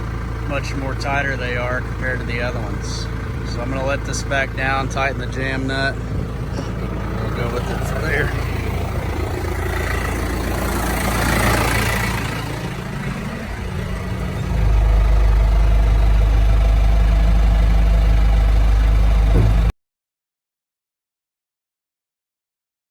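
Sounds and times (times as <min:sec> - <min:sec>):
tractor engine running: 0:00.0 - 0:19.7.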